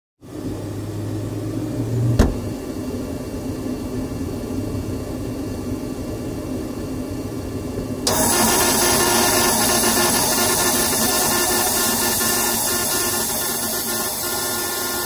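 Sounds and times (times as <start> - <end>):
fans and air pump whirring: 0.2 - 15.0.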